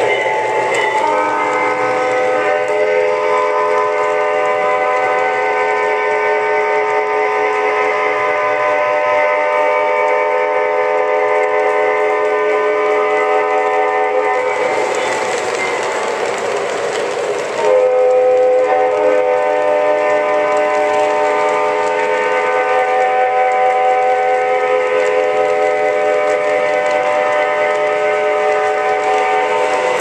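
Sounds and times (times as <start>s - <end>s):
model train horn chord: 0.0s - 15.2s, 17.6s - 30.0s
freight cars rolling on track: 0.0s - 30.0s.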